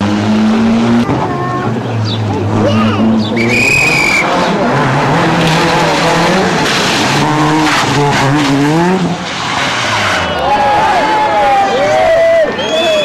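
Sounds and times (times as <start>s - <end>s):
rally car engine revving by: 0.0s - 12.0s
tyre and road noise: 0.0s - 13.0s.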